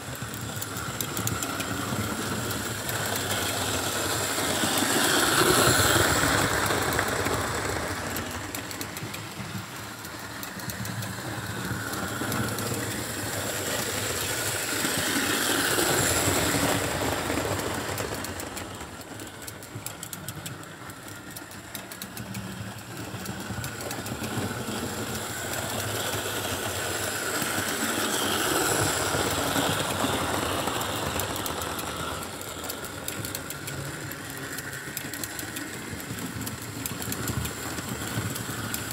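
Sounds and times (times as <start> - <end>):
model train running on track: 0.0 - 38.9.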